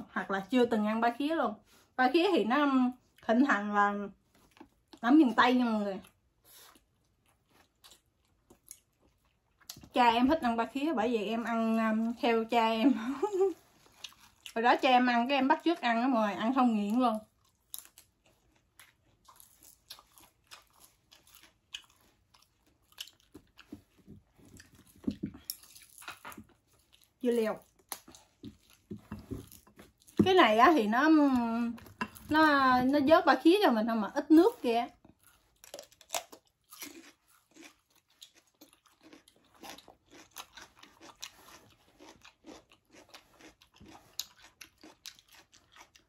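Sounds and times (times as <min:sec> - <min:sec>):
chewing and crunching food: 0:01.6 - 0:46.0.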